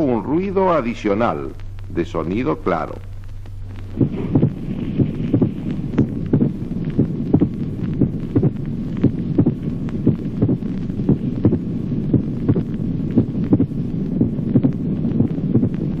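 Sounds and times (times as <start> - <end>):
low hum: 0.0 - 16.0
heartbeat sounds: 2.8 - 16.0.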